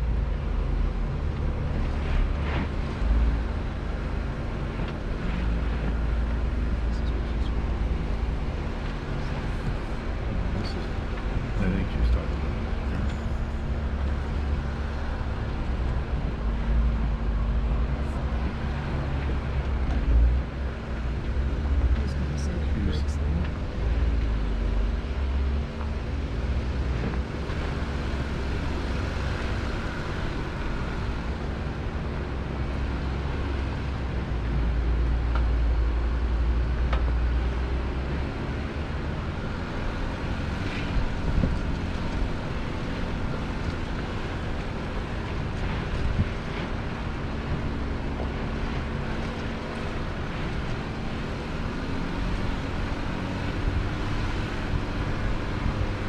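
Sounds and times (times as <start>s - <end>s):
vehicle engine drone: 0.0s - 56.0s.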